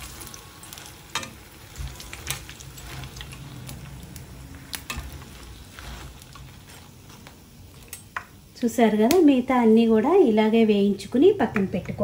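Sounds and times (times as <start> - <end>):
hot oil sizzling: 0.0 - 11.6.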